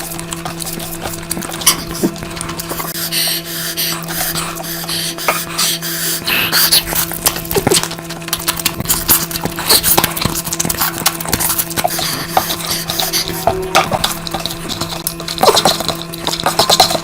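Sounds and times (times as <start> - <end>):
wet chewing and mouth smacks: 0.0 - 3.2, 4.0 - 17.0
steady low hum: 0.0 - 17.0.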